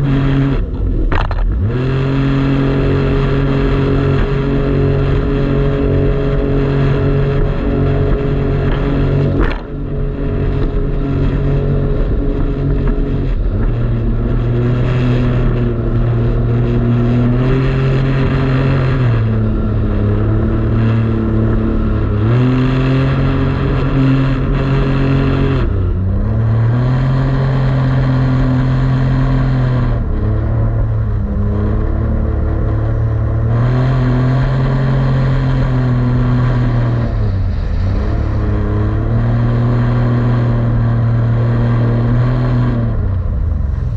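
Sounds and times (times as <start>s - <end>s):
jet ski engine running: 0.0s - 43.9s.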